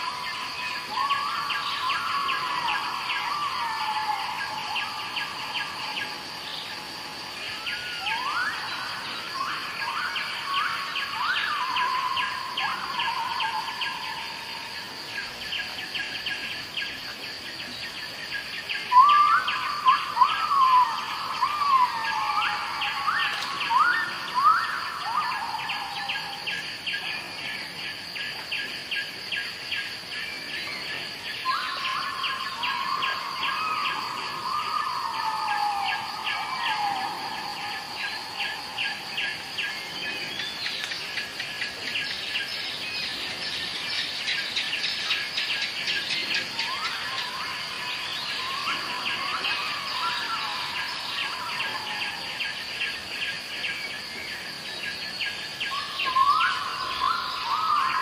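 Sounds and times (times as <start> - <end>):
high insect hum: 0.0 - 58.0.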